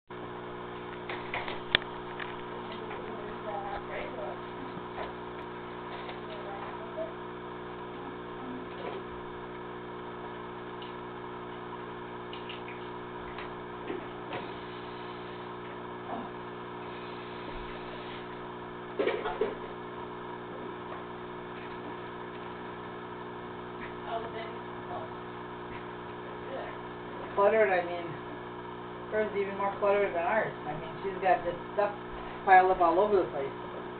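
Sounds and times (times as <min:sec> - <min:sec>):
aquarium filter pump humming: 0:00.1 - 0:33.9.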